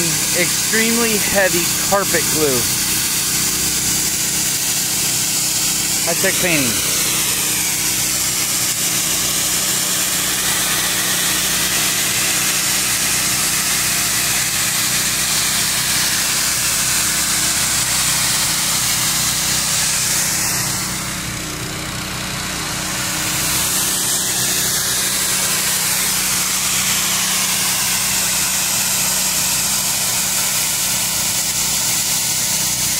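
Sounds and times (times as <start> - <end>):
spray jet hissing on concrete: 0.0 - 21.4, 22.6 - 32.9
pressure washer machine drone: 0.0 - 32.9.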